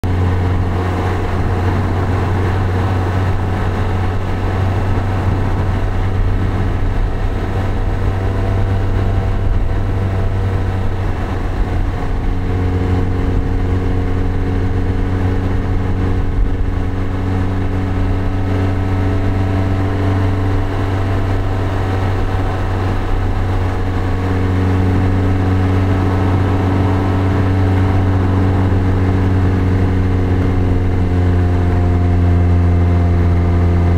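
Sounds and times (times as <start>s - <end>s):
car engine running: 0.0s - 33.9s
road and wind noise: 0.0s - 33.9s.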